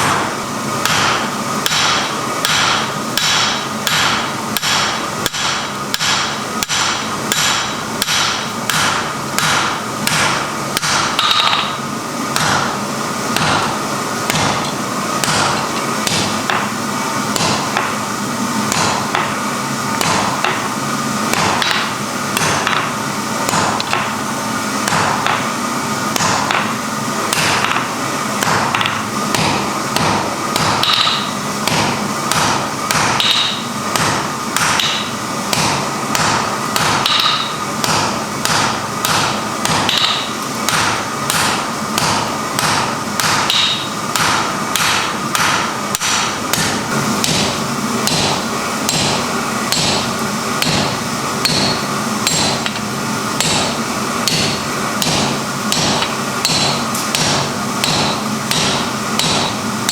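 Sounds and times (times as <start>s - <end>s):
hammer striking iron on anvil: 0.0s - 12.8s, 13.4s - 18.0s, 18.7s - 19.4s, 20.0s - 24.2s, 24.8s - 25.5s, 26.2s - 59.9s.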